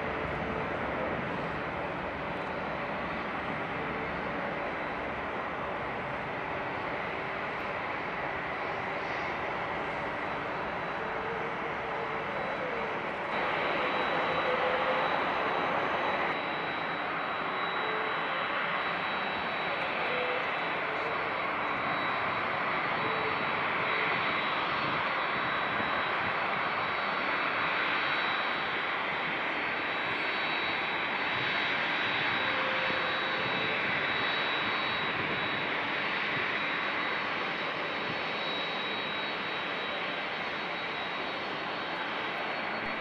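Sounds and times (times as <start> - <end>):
high-pitched whine: 0.0 - 43.0
jet engines running: 0.0 - 43.0.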